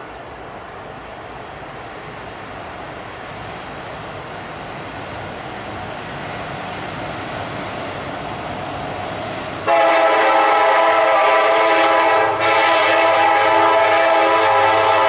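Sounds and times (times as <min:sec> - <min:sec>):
diesel locomotive engine droning: 0:00.0 - 0:15.0.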